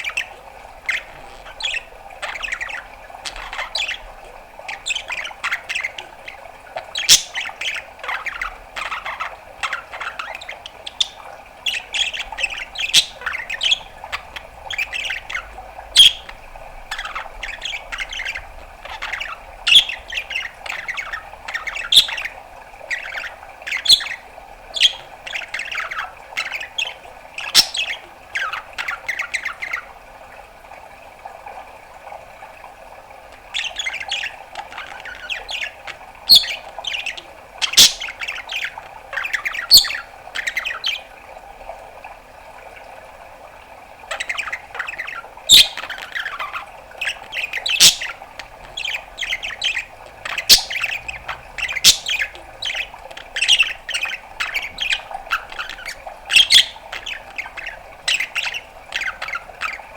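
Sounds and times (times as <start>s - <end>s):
budgerigar chattering: 0.0s - 29.8s, 33.6s - 41.0s, 44.1s - 59.9s.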